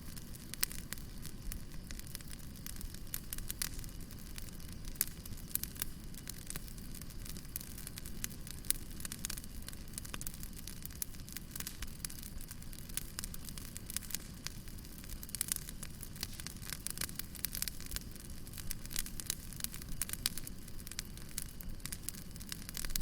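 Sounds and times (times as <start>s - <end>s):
fire crackling and popping: 0.0s - 23.0s
low fire rumble: 0.0s - 23.0s.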